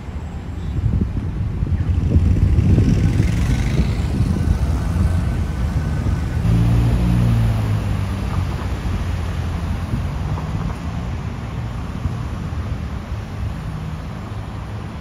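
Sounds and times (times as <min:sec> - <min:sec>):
steady engine hum: 0:00.0 - 0:15.0
vehicle engine rumbling: 0:00.0 - 0:15.0.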